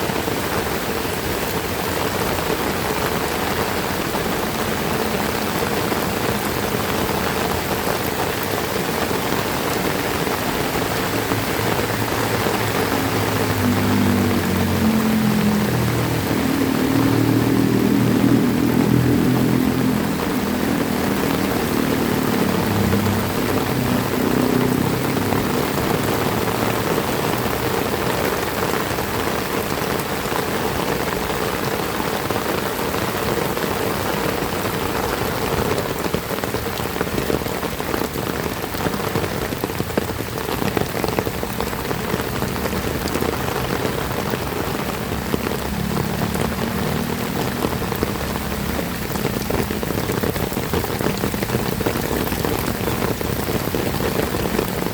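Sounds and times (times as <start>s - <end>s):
heavy rain splashing: 0.0s - 54.9s.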